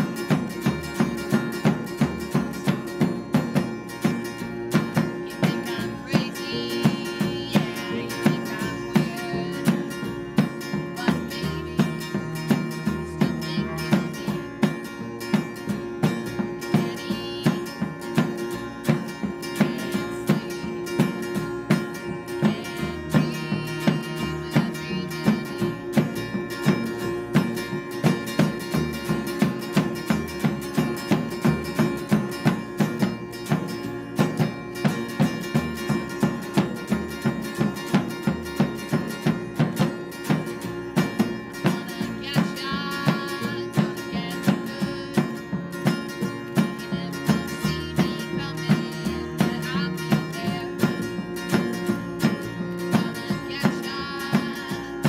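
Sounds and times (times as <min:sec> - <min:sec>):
acoustic band playing: 0:00.0 - 0:55.0.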